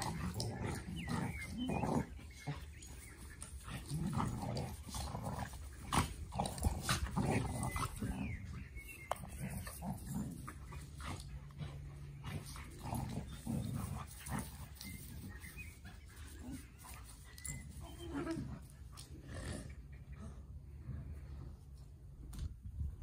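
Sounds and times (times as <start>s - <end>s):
dogs growling playfully: 0.0s - 21.1s.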